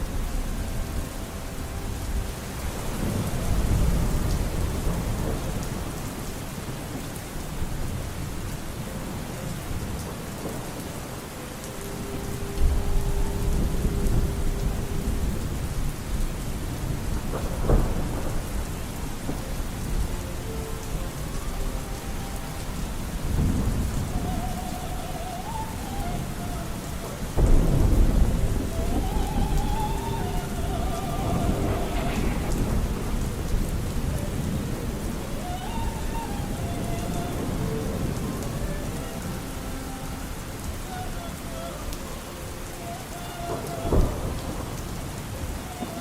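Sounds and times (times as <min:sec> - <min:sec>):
rolling thunder: 0:00.0 - 0:42.0, 0:42.9 - 0:46.0
steady rain: 0:00.0 - 0:46.0
muffled distant music: 0:08.8 - 0:46.0.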